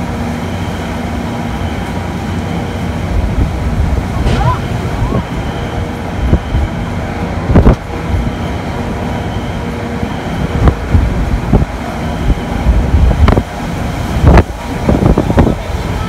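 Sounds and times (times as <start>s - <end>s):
loud gusting wind: 0.0s - 16.0s.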